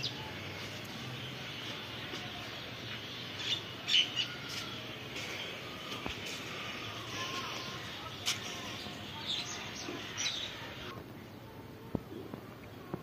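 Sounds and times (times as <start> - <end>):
small birds chirping: 0.0 - 11.0
faint background noise: 0.0 - 13.0.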